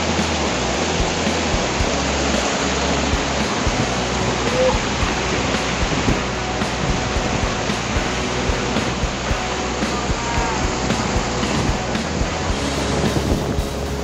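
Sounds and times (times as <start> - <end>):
water rushing over rock: 0.0 - 14.0.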